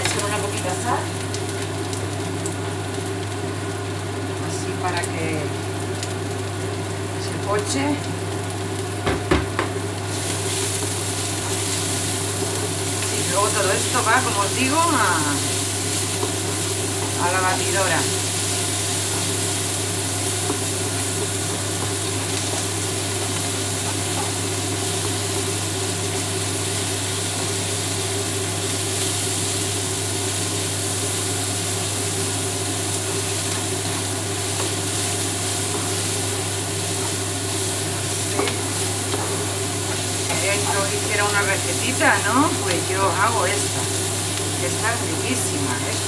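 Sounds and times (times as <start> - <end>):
range hood fan humming: 0.0 - 46.0
vegetables sizzling in oil: 0.0 - 46.0.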